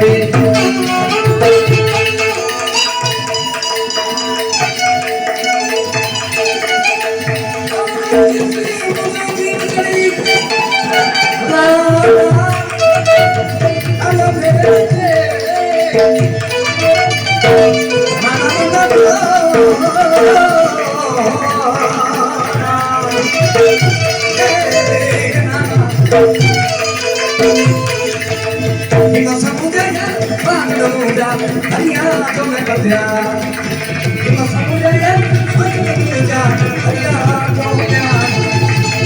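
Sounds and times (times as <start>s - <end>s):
hand drum rhythm: 0.0s - 39.0s
winding melodic line: 0.1s - 33.2s.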